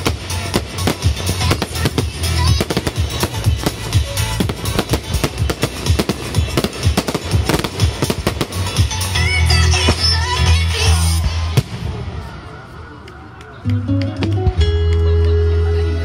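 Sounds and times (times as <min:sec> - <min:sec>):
fireworks bursts and crackles: 0:00.0 - 0:13.6
music: 0:00.0 - 0:16.0.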